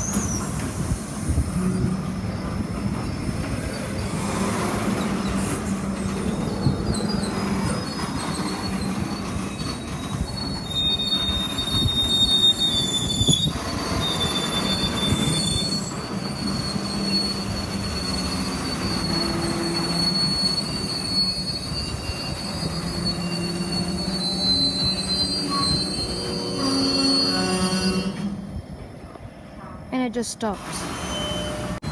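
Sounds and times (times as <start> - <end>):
train wheels squealing on rail: 0.0 - 29.8, 30.4 - 31.9.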